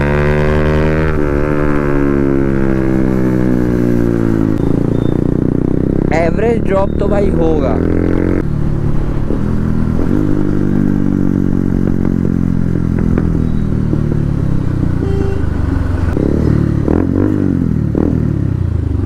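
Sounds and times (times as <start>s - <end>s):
motorcycle engine deep exhaust note: 0.0s - 8.4s, 9.2s - 19.0s.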